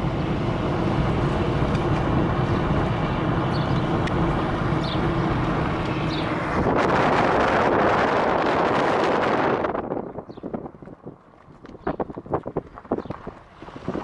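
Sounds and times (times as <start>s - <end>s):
car road and engine rumble: 0.0s - 14.0s
wind on microphone: 1.1s - 14.0s.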